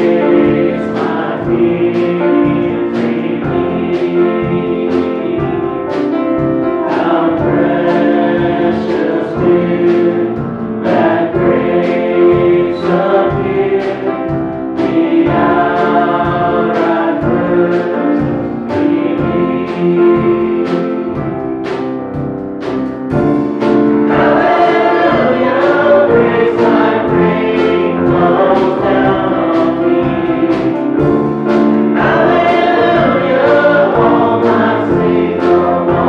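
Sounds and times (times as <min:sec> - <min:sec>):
drum kit: 0:00.0 - 0:36.0.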